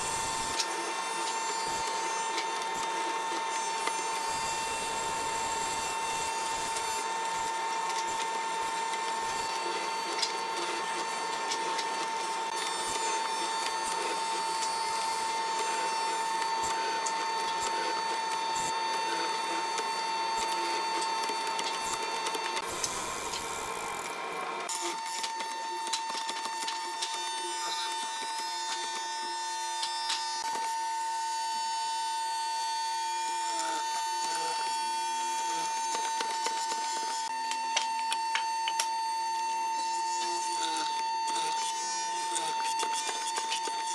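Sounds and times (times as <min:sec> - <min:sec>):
mortiser machine whine: 0:00.0 - 0:43.9.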